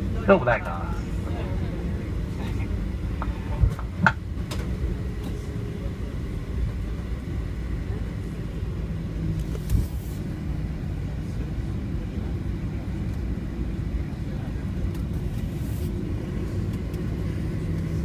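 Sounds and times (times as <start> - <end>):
low aircraft cabin rumble: 0.0 - 18.0.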